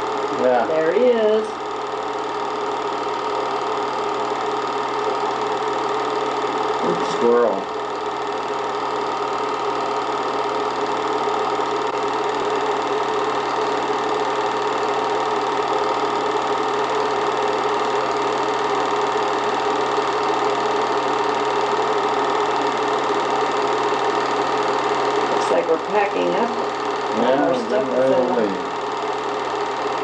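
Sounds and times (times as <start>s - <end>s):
movie projector whirring: 0.0s - 30.0s.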